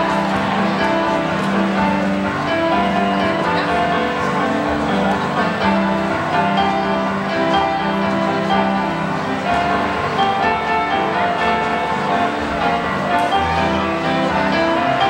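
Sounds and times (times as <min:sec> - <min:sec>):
music with long held notes: 0:00.0 - 0:15.0.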